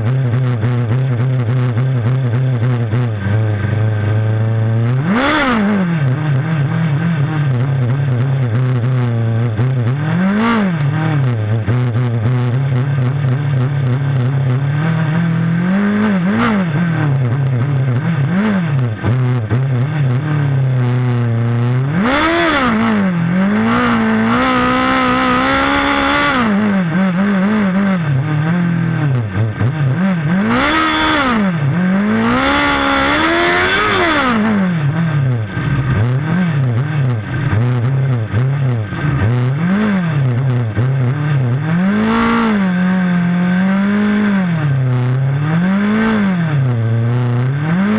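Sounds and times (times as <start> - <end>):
racing engine idling and revving: 0.0 - 47.9.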